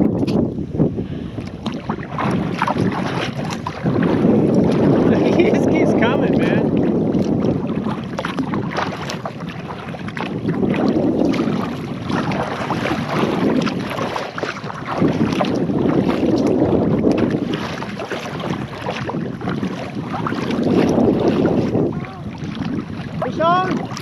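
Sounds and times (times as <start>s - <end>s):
water splashing against kayak hull: 0.0s - 24.0s
wind buffeting microphone: 0.0s - 24.0s.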